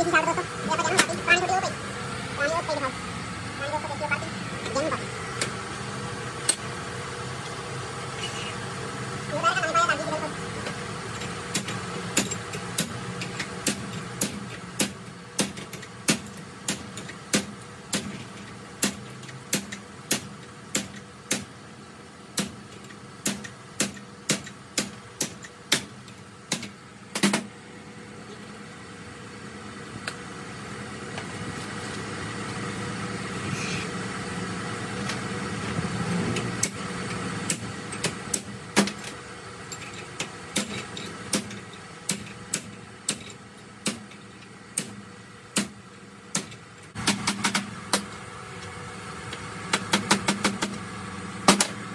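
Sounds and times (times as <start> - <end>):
engine humming: 0.0 - 51.9.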